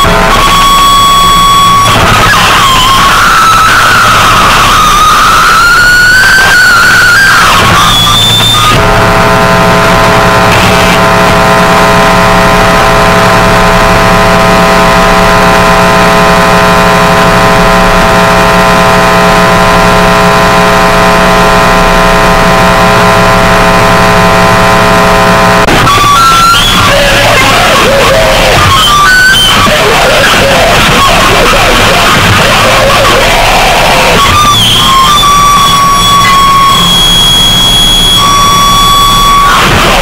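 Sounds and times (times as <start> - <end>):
audio feedback squeal and drone: 0.0 - 40.0.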